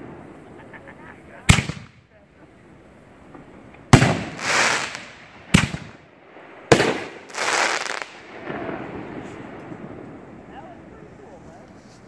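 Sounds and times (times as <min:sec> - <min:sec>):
fireworks bangs: 0:00.0 - 0:11.7.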